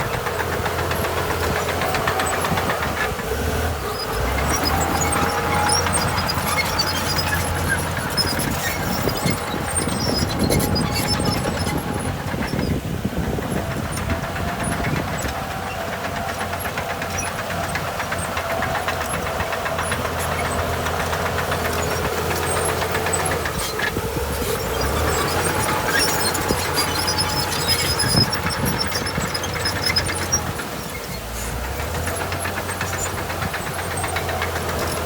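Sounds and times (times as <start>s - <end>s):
heavy diesel engine: 0.0s - 35.0s.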